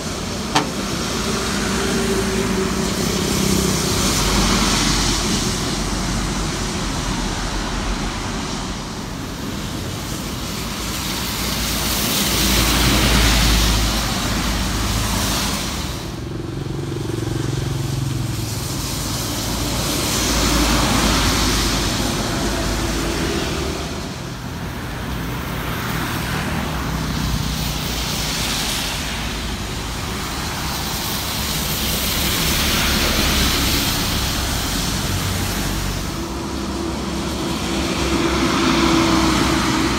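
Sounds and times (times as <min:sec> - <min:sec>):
engine rumble of passing vehicles: 0:00.0 - 0:39.9
tyre hiss on wet road: 0:00.0 - 0:39.9.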